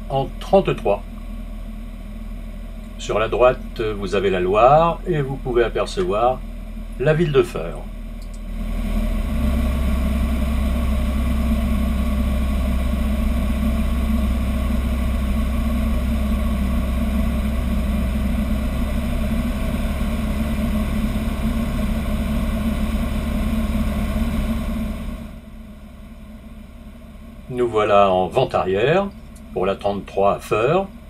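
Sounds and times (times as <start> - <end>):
aircraft engine and propeller drone: 0.0 - 31.0.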